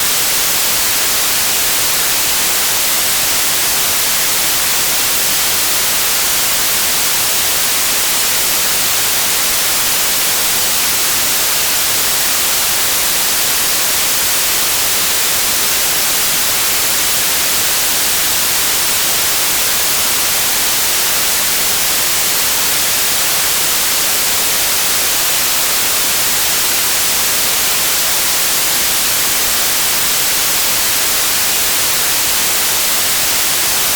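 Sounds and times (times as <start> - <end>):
white noise hiss: 0.0 - 33.9.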